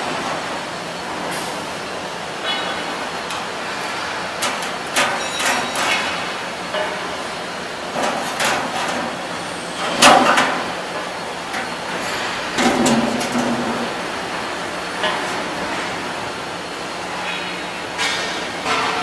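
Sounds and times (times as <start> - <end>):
steady machine noise: 0.0 - 18.9.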